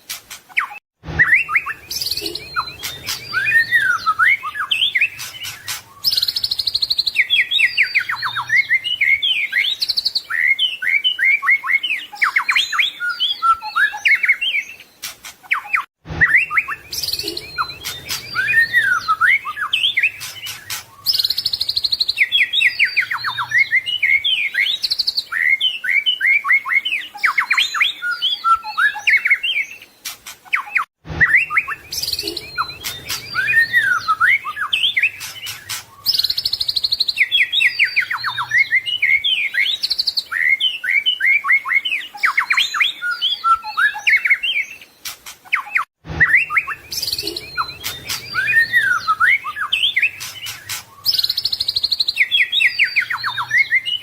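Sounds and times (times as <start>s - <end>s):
bird singing whistles and trills: 0.5s - 54.0s.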